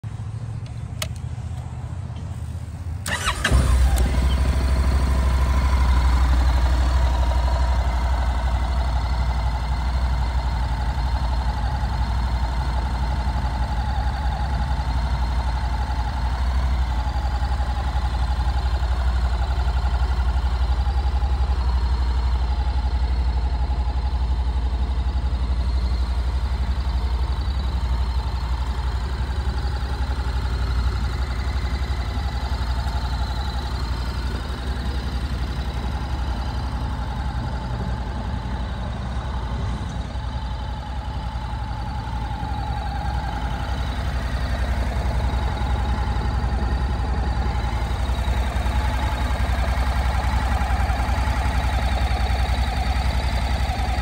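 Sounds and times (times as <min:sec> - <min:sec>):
motorcycle engine starting and idling: 0:00.0 - 0:54.0.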